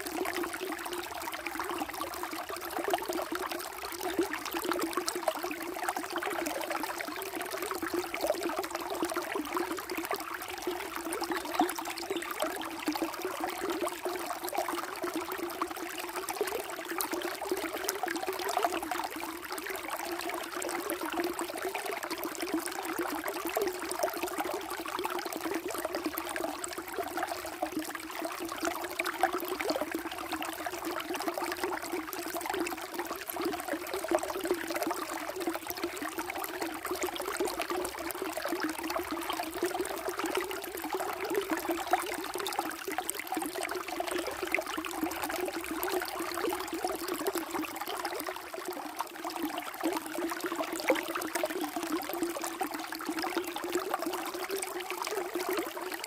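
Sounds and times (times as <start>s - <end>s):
flowing water: 0.0s - 56.0s.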